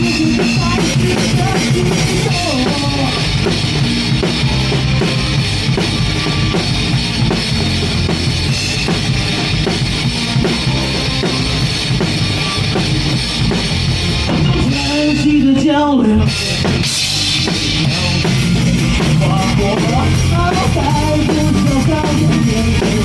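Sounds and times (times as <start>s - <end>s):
live band music: 0.0s - 23.0s.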